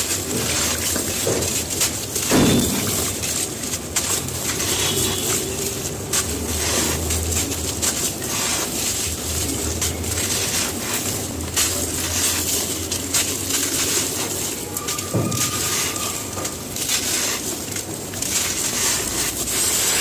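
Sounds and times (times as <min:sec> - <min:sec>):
cement crumbling and crunching: 0:00.0 - 0:20.0.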